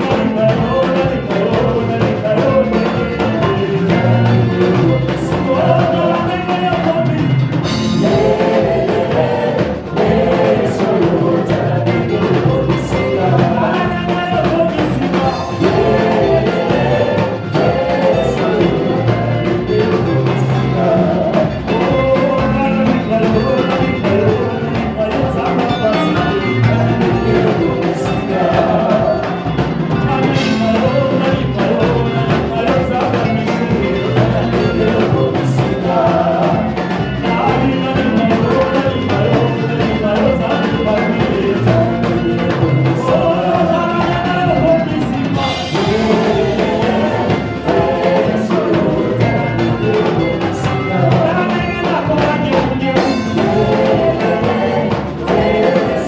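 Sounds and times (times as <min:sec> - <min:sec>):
band with drums playing: 0:00.0 - 0:56.0
group singing: 0:00.0 - 0:56.0.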